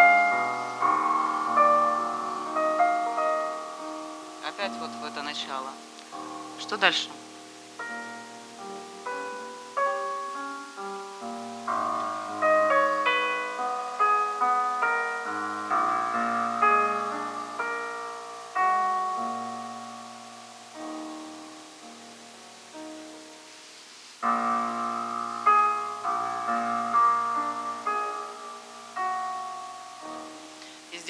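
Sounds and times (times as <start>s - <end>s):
solo piano classical piece: 0.0s - 31.0s.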